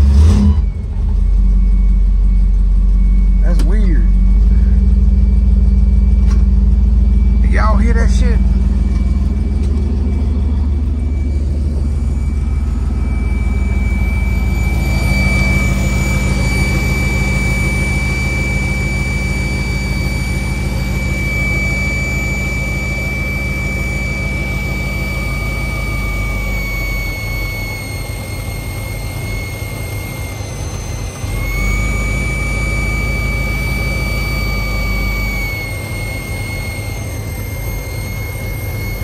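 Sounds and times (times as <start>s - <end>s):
car engine idling: 0.0s - 39.0s
high-pitched whistle: 0.3s - 39.0s.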